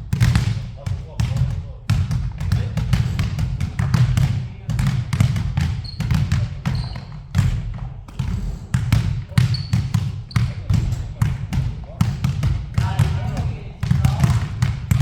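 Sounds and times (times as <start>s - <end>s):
basketball dribbling: 0.0s - 15.0s.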